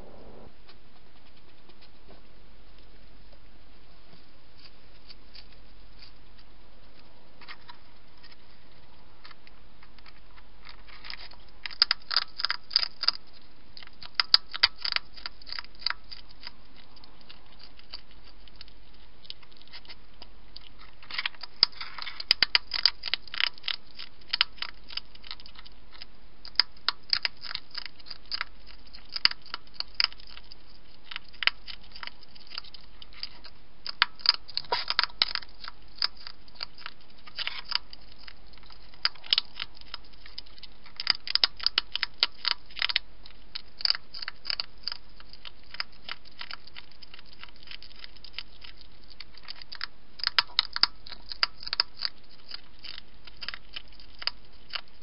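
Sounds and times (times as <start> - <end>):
hedgehog crunching dry food: 0.0 - 55.0.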